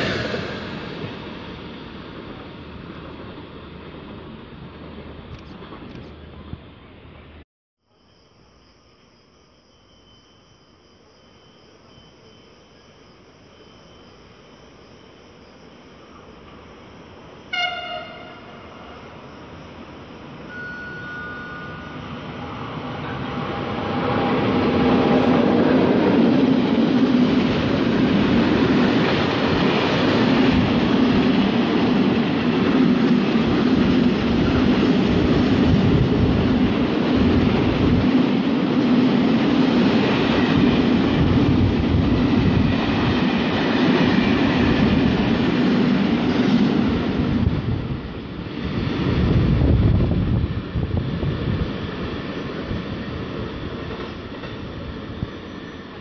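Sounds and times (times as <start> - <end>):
freight train rumbling past: 0.0 - 7.4, 16.1 - 56.0.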